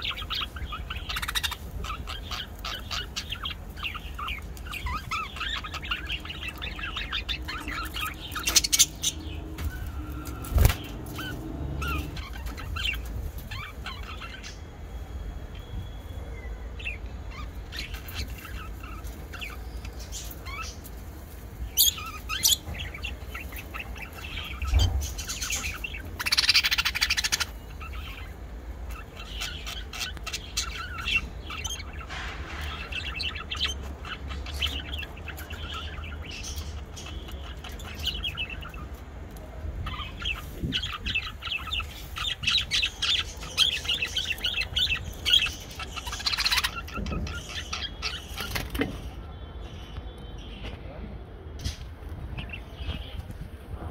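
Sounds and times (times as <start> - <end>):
budgerigars chirping and chattering: 0.0 - 14.8, 15.5 - 50.9, 51.6 - 53.4.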